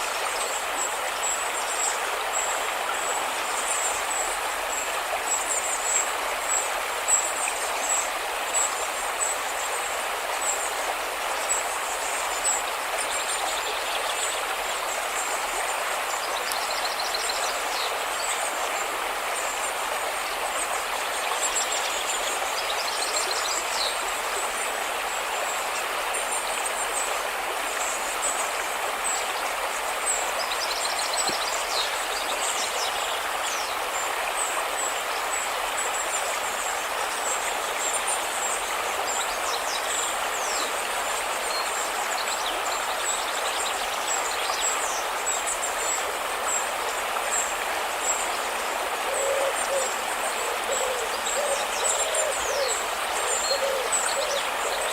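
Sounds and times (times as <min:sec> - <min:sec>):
river flowing: 0:00.0 - 0:54.9.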